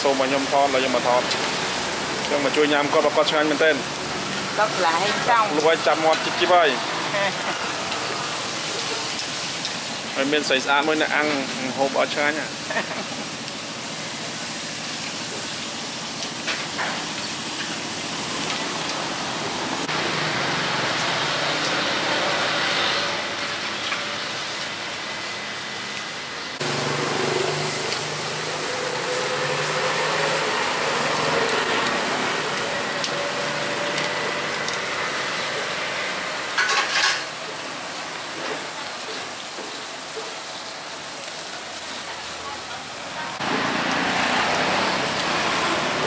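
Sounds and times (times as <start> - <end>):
meat sizzling on a grill: 0.0 - 46.0.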